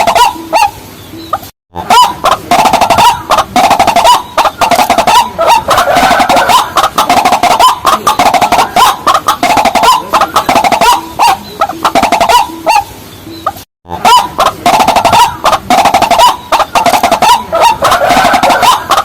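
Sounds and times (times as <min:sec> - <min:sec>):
waterhens clucking and croaking: 0:00.0 - 0:19.0.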